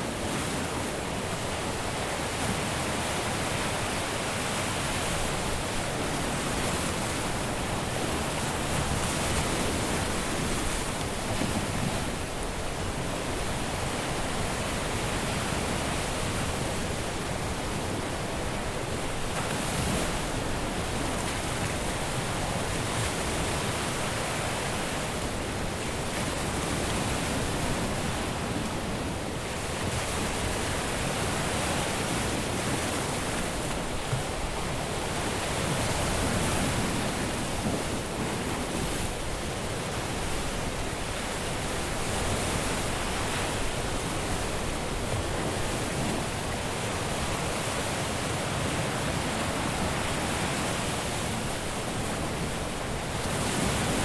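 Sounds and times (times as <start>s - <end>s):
surf washing onto a beach: 0.0s - 54.0s.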